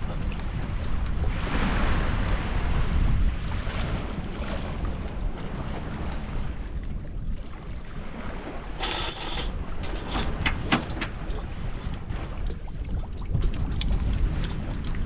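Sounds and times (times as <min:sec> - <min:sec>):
person wading through shallow water: 0:00.0 - 0:15.0
small waves lapping: 0:00.0 - 0:15.0
wind rumbling on microphone: 0:00.0 - 0:15.0.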